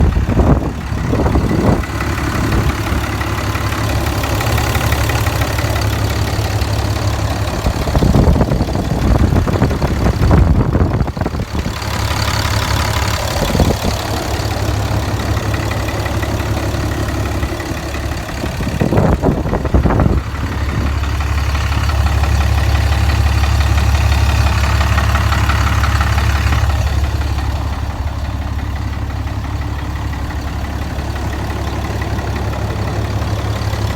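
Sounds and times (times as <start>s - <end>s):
diesel engine idling with knock: 0.0s - 33.9s.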